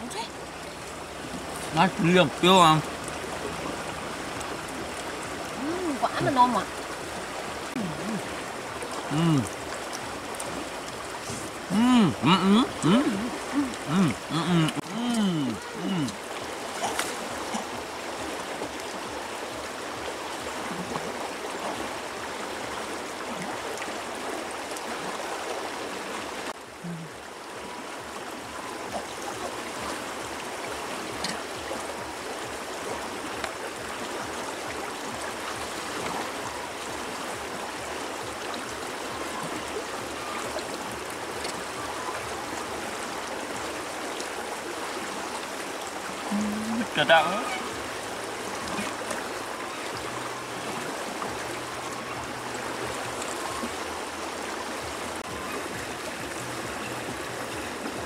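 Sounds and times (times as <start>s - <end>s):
river water rushing over stones: 0.0s - 58.0s.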